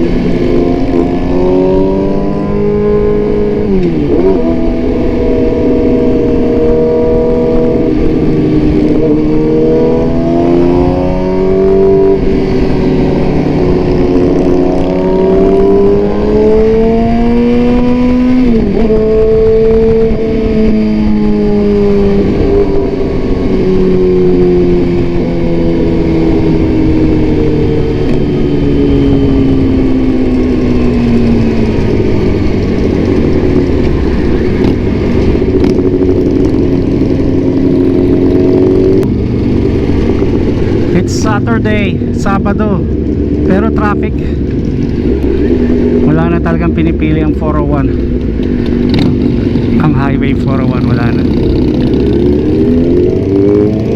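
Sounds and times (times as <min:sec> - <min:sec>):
motorcycle engine: 0:00.0 - 0:53.9
wind noise: 0:00.0 - 0:53.9.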